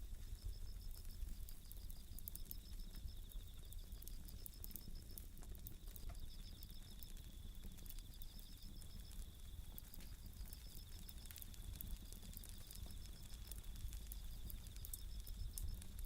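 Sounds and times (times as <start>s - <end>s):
crackling campfire: 0.0s - 16.0s
crickets chirping in trills: 0.0s - 16.0s.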